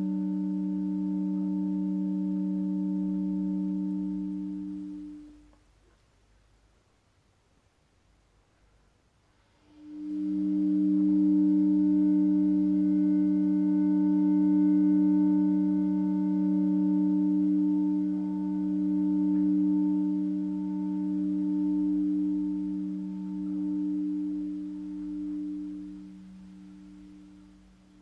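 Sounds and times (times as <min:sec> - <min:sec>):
low sustained drone: 0:00.0 - 0:05.4, 0:09.7 - 0:28.0.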